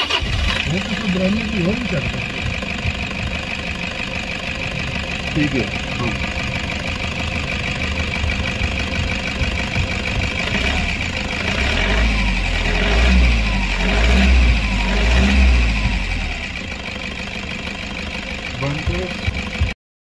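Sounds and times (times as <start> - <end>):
diesel engine revving: 0.0 - 19.8.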